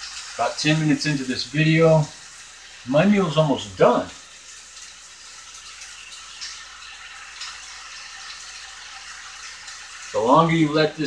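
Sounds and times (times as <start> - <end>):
steak sizzling on a grill: 0.0 - 11.0.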